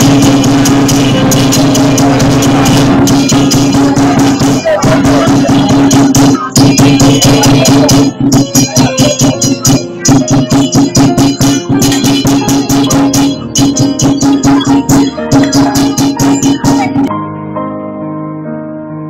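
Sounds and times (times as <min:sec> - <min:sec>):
cymbal and drum strikes: 0:00.0 - 0:17.1
steady held note: 0:00.0 - 0:17.1.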